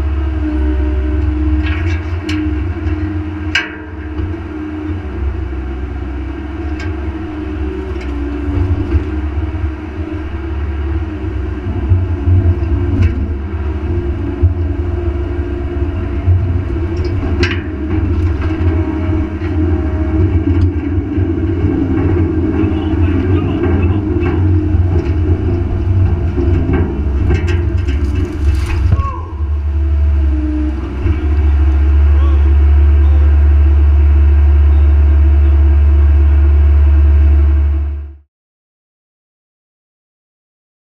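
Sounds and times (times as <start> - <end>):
excavator diesel engine rumbling: 0.0 - 38.2.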